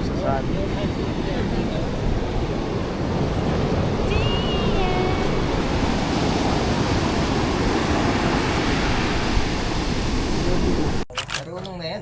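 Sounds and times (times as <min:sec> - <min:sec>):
ocean surf washing on beach: 0:00.0 - 0:11.0
wind rumbling on microphone: 0:00.0 - 0:11.0.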